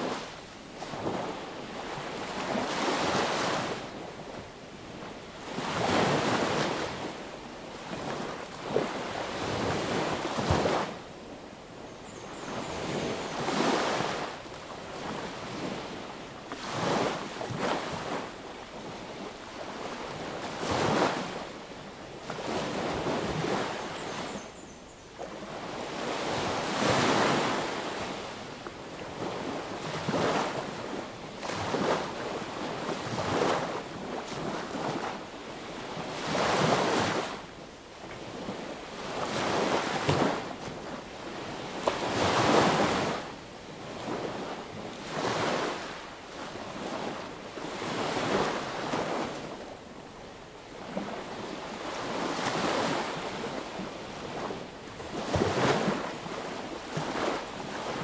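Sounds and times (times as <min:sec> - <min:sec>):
sea waves breaking on beach: 0:00.0 - 0:11.0, 0:12.8 - 0:21.6, 0:25.4 - 0:37.5, 0:38.2 - 0:49.8, 0:50.7 - 0:58.0.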